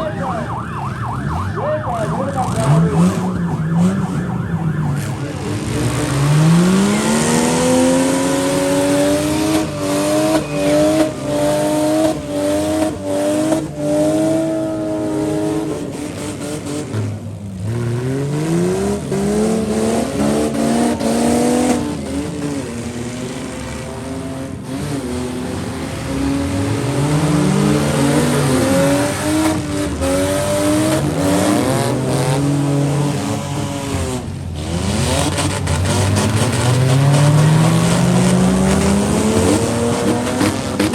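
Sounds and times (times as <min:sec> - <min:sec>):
engines revving hard: 0:00.0 - 0:40.9
cars hitting each other: 0:00.9 - 0:40.9.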